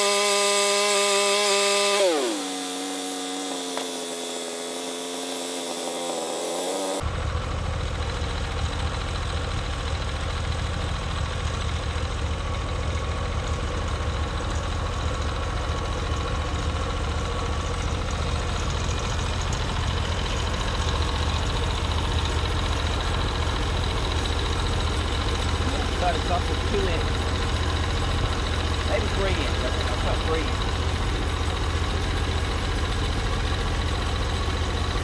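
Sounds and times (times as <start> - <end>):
sawmill engine running: 0.0 - 35.0.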